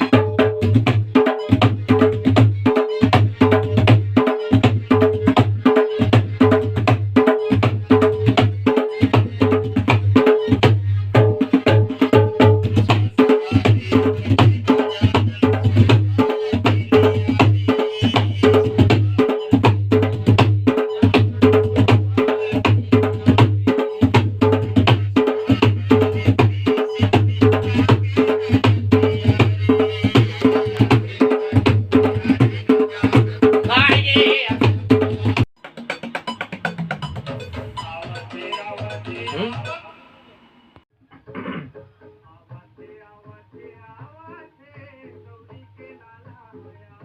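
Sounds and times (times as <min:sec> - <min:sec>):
tabla bass drum strokes: 0:00.0 - 0:38.3
tabla treble drum strokes: 0:00.0 - 0:39.8.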